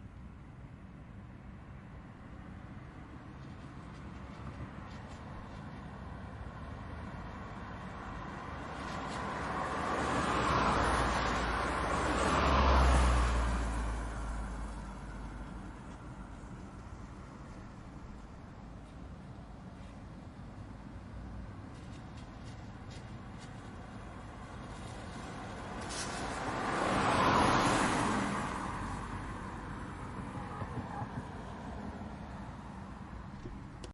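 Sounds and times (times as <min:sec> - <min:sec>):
car passing by: 0:02.9 - 0:19.0, 0:21.2 - 0:33.3.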